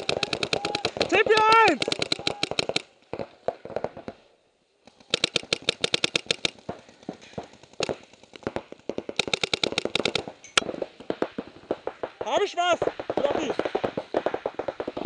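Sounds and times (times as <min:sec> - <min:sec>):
paintball markers firing: 0:00.0 - 0:04.2, 0:04.8 - 0:15.0.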